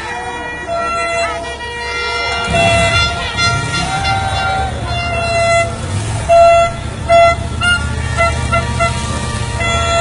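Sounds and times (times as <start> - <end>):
low engine rumble: 0.0 - 10.0
vehicle horn honking: 0.0 - 10.0.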